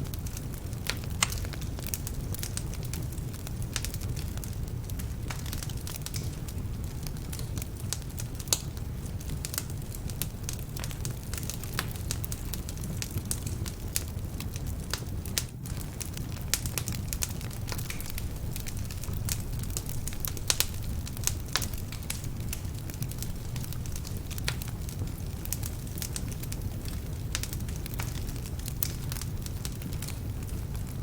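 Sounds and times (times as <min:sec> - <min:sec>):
low fire rumble: 0:00.0 - 0:31.0
wood fire crackling and popping: 0:00.0 - 0:31.0.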